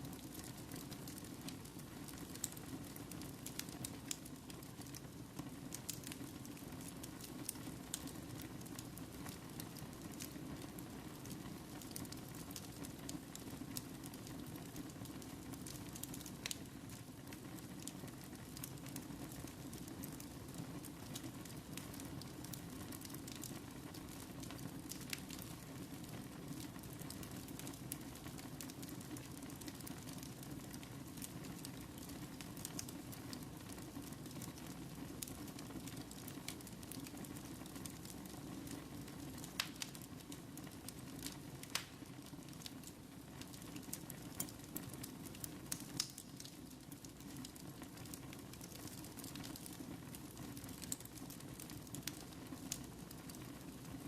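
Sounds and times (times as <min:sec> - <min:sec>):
wood fire burning: 0:00.0 - 0:54.0.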